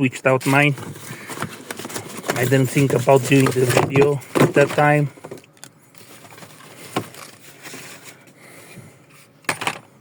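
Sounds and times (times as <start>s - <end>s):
handling rustling: 0.4s - 8.4s.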